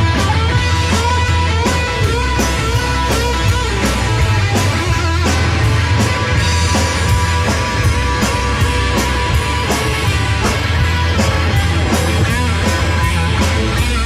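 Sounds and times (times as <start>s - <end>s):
bass guitar: 0.0s - 14.0s
drums: 0.0s - 14.0s
electric guitar: 0.0s - 14.0s.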